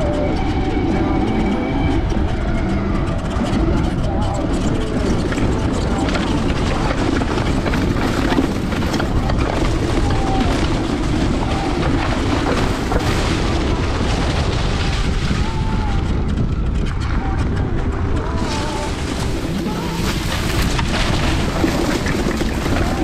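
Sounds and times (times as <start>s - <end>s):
electric atv running: 0.0s - 23.0s
wind buffeting microphone: 0.0s - 23.0s.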